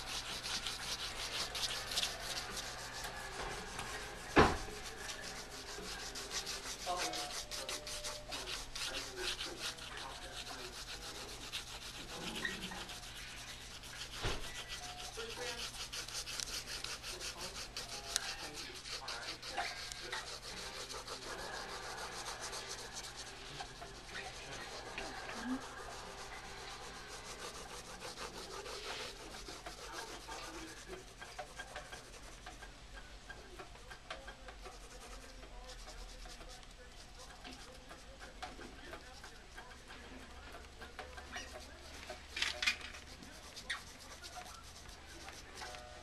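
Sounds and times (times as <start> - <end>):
pencil scratching on paper: 0.0 - 46.0.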